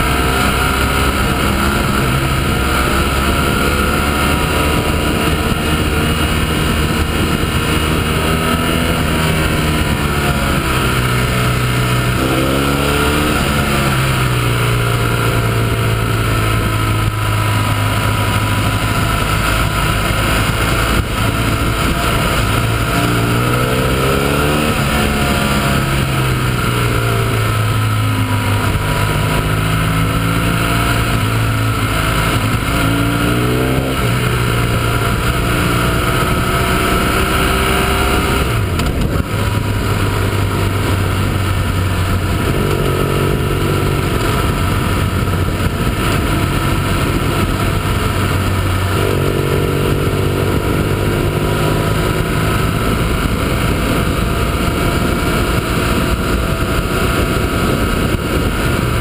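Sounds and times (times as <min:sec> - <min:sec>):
motorcycle engine: 0:00.0 - 0:59.0
wind rushing: 0:00.0 - 0:59.0.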